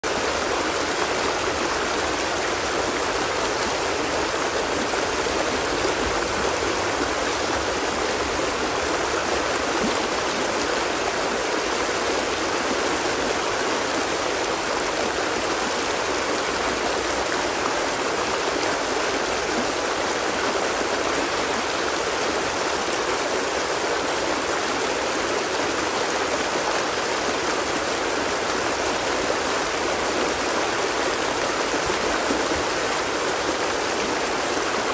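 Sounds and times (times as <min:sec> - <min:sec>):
water flowing steadily: 0:00.0 - 0:34.9.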